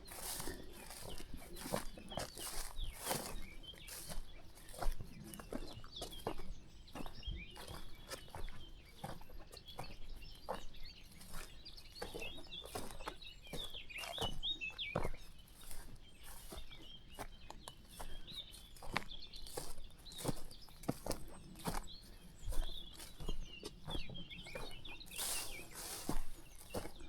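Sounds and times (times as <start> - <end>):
birds chirping: 0.0 - 27.0
footsteps on a path: 0.0 - 27.0.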